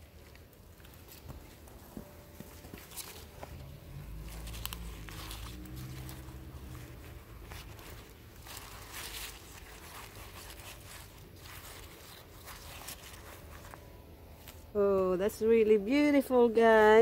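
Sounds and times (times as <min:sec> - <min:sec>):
hands pressing potting soil: 0:00.0 - 0:15.5
cloth brushing against phone: 0:00.8 - 0:14.7.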